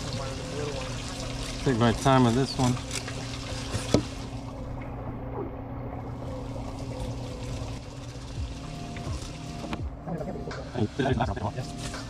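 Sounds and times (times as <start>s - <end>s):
low steady hum: 0.0s - 12.0s
water trickling: 0.0s - 12.0s.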